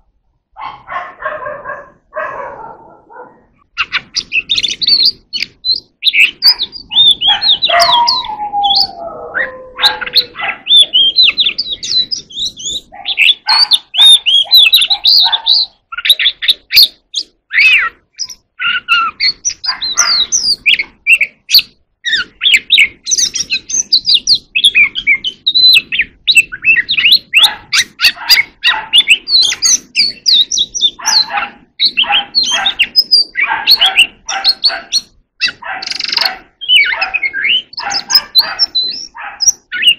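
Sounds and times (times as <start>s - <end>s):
bird singing whistled phrases: 3.8s - 39.9s.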